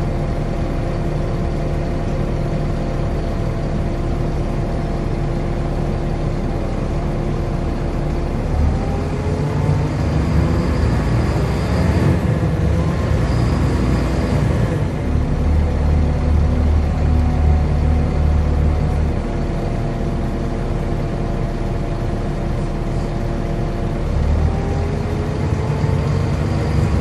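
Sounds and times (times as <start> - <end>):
bus engine rising: 0.0 - 27.0.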